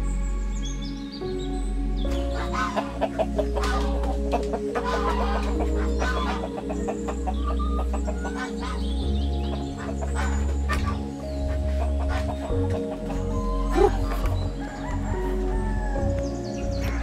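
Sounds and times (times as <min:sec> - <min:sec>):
background music: 0:00.0 - 0:17.0
chickens clucking: 0:02.0 - 0:17.0.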